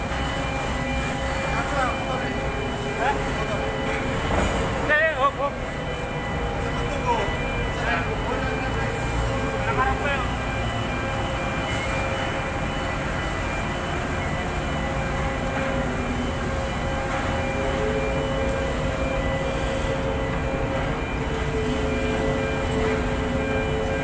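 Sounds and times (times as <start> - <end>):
heavy machinery drone: 0.0 - 24.0.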